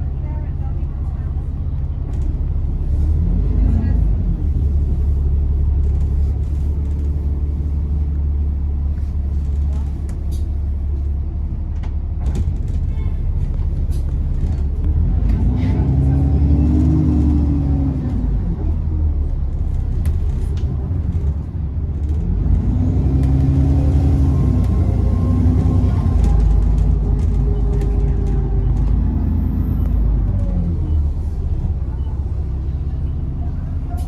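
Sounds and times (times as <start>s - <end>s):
bus diesel engine: 0.0s - 34.0s.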